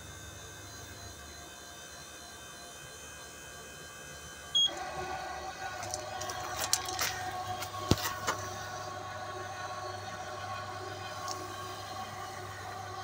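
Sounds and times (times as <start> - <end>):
electric seat motor running: 0.0 - 13.0.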